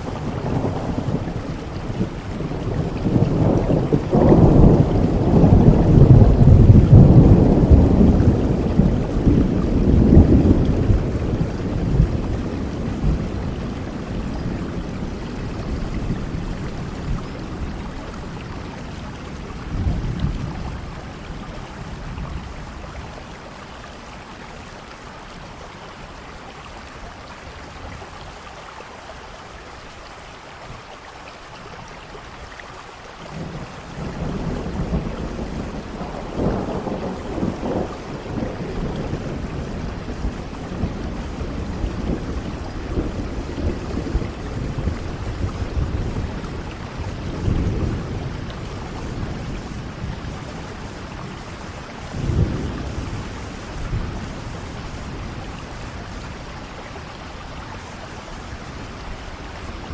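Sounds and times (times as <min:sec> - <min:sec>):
rolling thunder: 0:00.0 - 0:23.5, 0:33.3 - 0:59.9
steady rainfall: 0:00.0 - 0:59.9.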